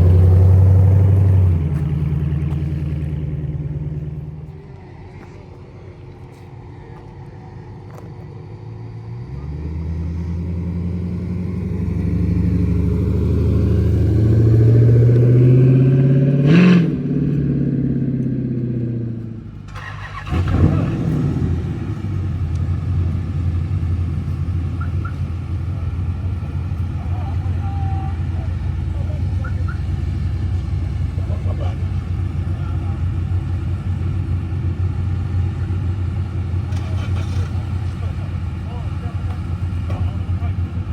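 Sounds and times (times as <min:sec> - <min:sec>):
car engine revving: 0:00.0 - 0:04.7, 0:08.9 - 0:40.9.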